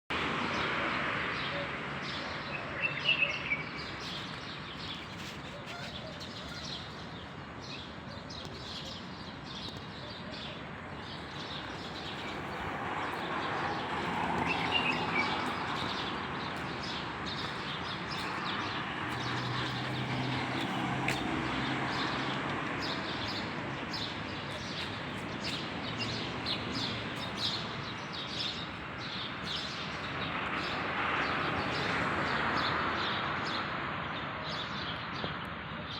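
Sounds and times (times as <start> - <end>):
birds chirping: 2.1 - 32.0.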